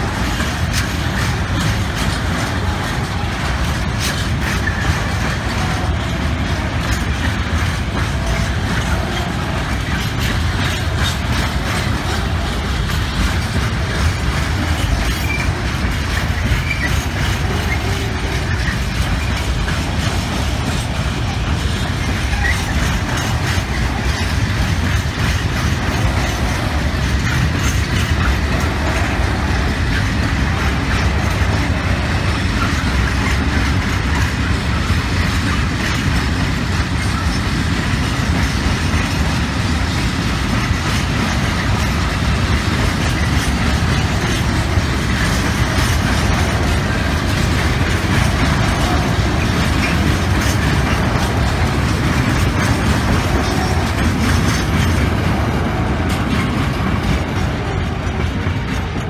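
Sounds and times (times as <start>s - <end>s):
train wheels rolling over rails: 0.0s - 59.0s.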